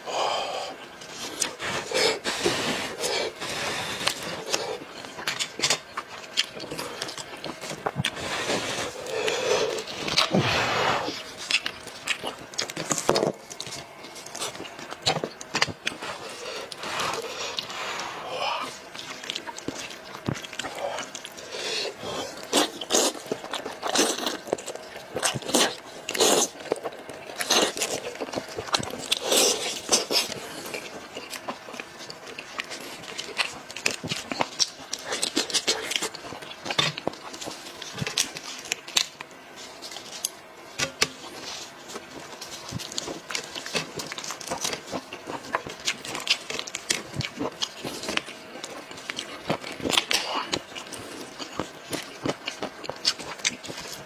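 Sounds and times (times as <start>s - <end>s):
chewing with mouth clicks: 0.8s - 54.0s.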